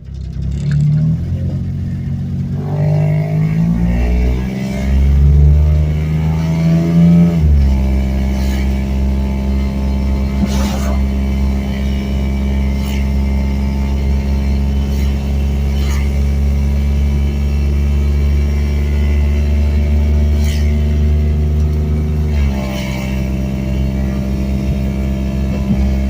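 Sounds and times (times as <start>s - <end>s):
car engine under load: 0.0s - 26.0s.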